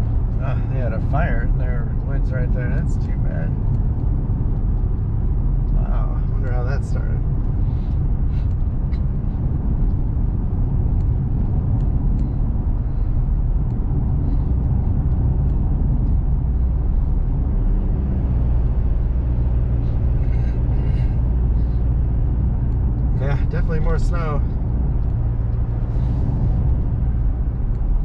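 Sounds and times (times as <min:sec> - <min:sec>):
truck engine and tyre noise: 0:00.0 - 0:28.0.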